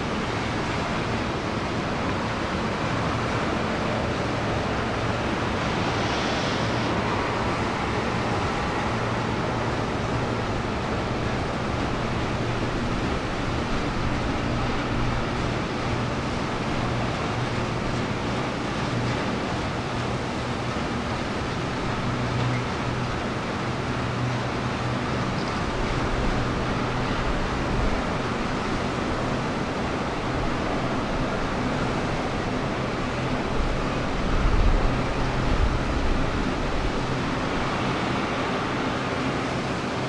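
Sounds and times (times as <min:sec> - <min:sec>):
diesel locomotive engine hum: 0:00.0 - 0:40.0
steady rushing noise: 0:00.0 - 0:40.0.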